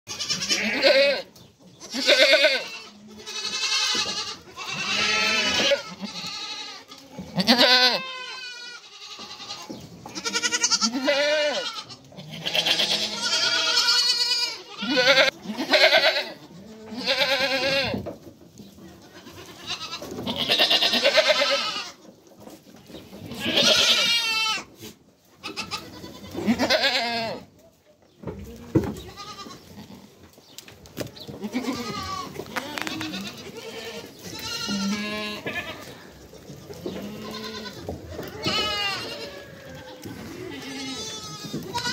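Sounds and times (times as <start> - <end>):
goats bleating: 0.1 - 18.0, 18.9 - 22.2, 23.2 - 27.5, 28.5 - 30.2, 31.3 - 41.9.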